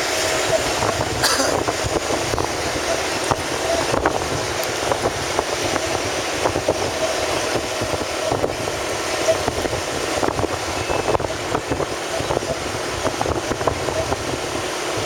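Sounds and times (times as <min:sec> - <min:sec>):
vehicle road and wind noise: 0:00.0 - 0:15.0.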